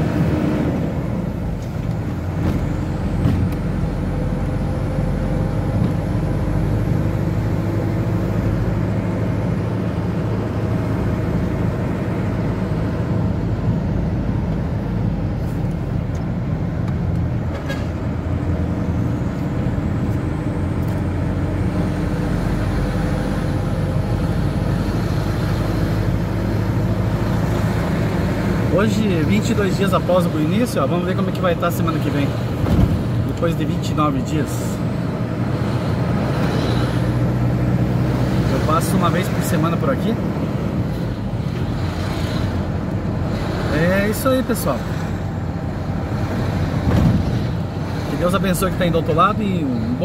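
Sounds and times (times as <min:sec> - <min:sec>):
vehicle engine drone: 0:00.0 - 0:50.0.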